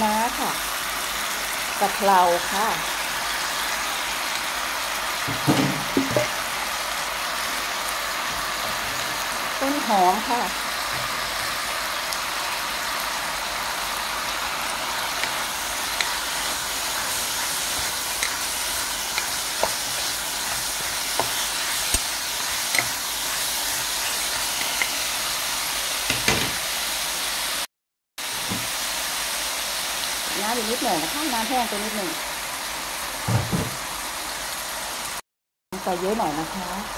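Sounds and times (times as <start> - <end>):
frying pan sizzling: 0.0 - 35.2.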